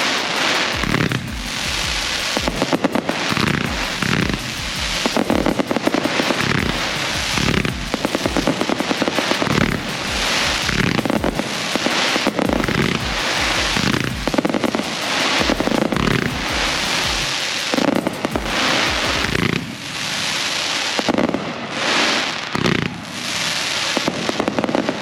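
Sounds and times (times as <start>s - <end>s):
fireworks bangs and thumps: 0.0s - 25.0s
fireworks crackling: 0.0s - 25.0s.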